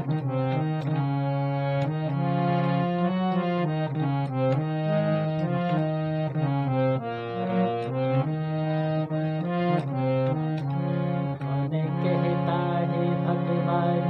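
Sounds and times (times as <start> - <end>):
harmonium melody: 0.0 - 14.0.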